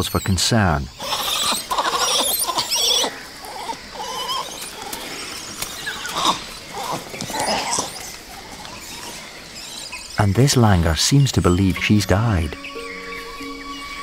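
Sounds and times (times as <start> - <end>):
monkeys calling and squealing: 0.0 - 14.0.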